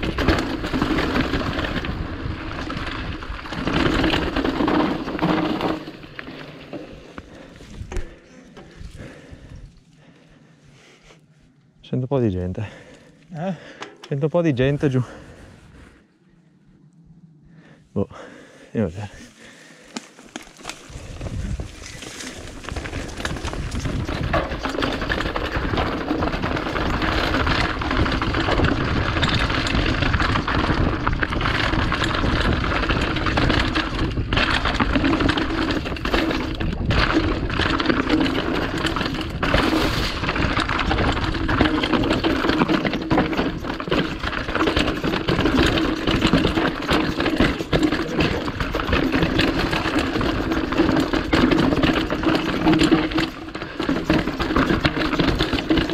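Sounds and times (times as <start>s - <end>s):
bike clattering on bumps: 0.0s - 9.6s, 19.3s - 55.9s
tyres crunching over loose stones: 0.0s - 10.1s, 18.9s - 55.9s.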